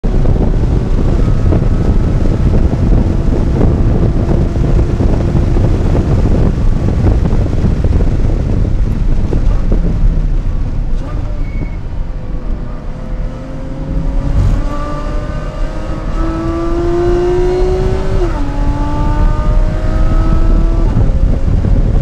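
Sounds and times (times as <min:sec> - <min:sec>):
wind and road noise in car cabin: 0:00.0 - 0:22.0.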